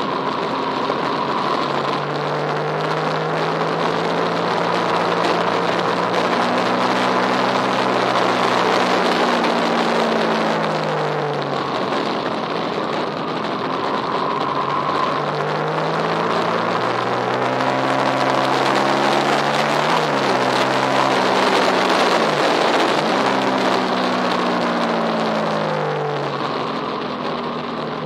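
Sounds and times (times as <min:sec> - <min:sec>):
other racing engines: 0:00.0 - 0:28.0
racing engine accelerating: 0:00.0 - 0:28.0.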